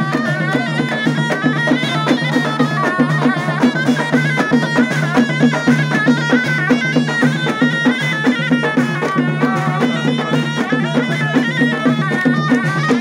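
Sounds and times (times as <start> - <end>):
frame drum beat: 0.0 - 13.0
large stick-beaten drum: 0.0 - 13.0
reed wind instrument melody: 0.0 - 13.0.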